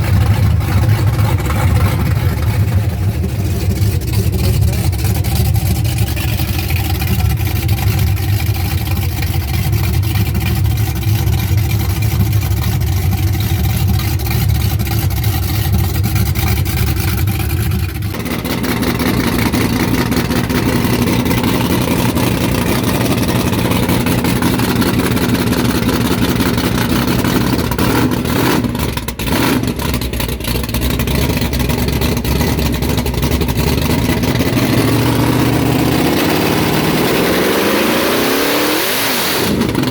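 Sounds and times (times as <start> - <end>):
loud car engine running: 0.0 - 39.9.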